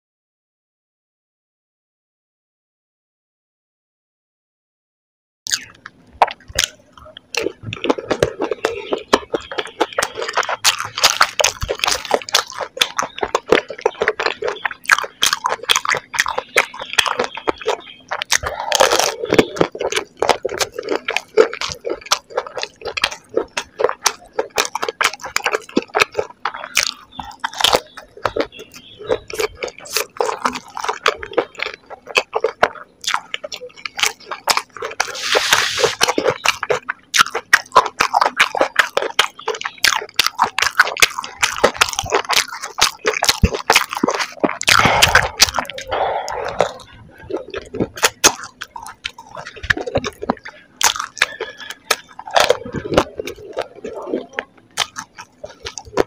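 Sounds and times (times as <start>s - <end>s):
crisp food crunching in mouth: 5.5s - 56.0s
wet squishing: 5.5s - 56.0s.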